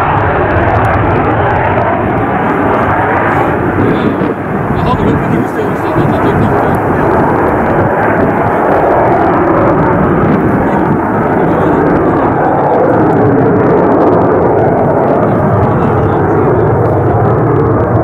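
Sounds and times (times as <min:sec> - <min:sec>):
loud jet roar: 0:00.0 - 0:18.0.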